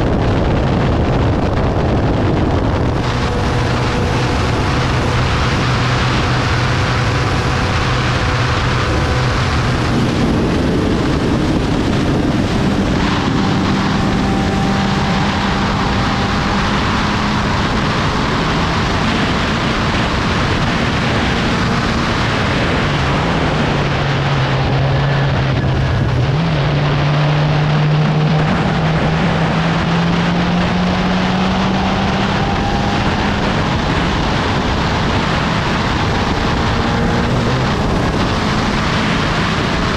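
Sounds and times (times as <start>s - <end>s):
racing car engine: 0.0s - 39.9s
wind rushing: 0.0s - 39.9s.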